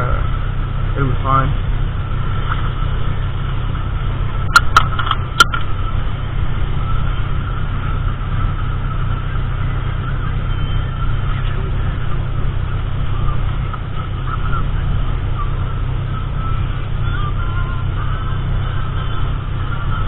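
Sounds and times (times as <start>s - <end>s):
car engine low rumble: 0.0s - 20.0s
faint steady whine: 0.0s - 20.0s.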